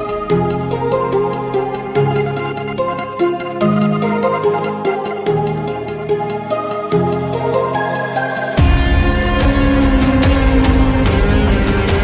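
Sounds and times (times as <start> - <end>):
soft electronic music: 0.0 - 12.0.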